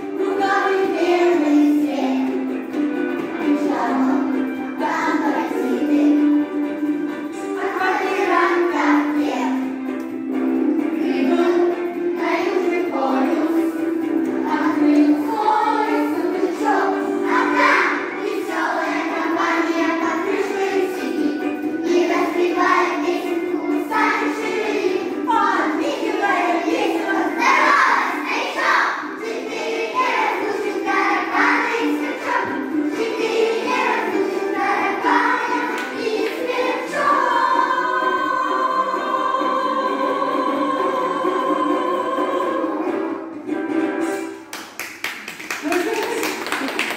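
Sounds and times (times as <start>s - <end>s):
children's choir singing: 0.0s - 44.5s.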